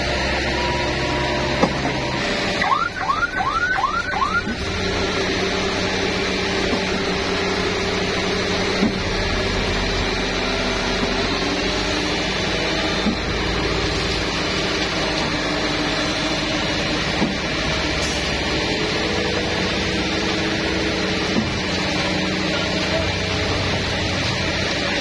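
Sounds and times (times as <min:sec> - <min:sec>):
diesel engine and hydraulic drone: 0:00.0 - 0:25.0.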